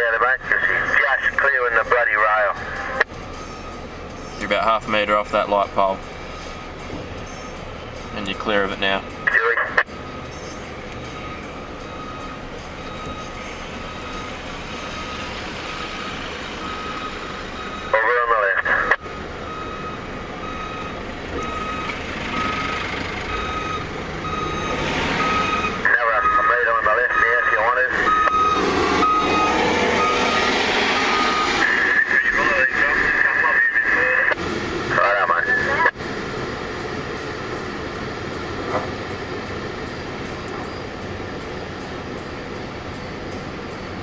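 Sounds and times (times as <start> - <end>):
heavy truck engines running: 0.0 - 44.0
road noise: 0.0 - 44.0
truck reversing alarm beeping: 0.0 - 44.0.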